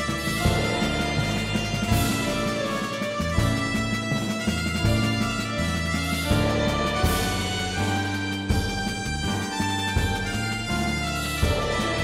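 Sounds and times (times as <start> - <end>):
instrumental music with held chords: 0.0 - 12.0.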